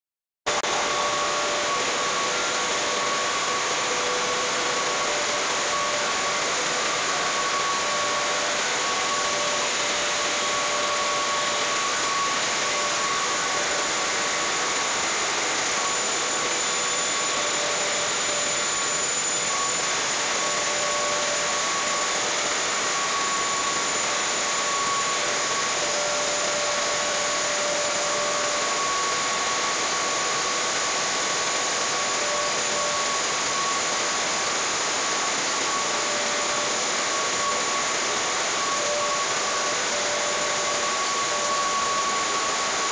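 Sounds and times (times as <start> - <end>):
faint whining tones: 0.5 - 42.9
milling machinery drone: 0.5 - 42.9.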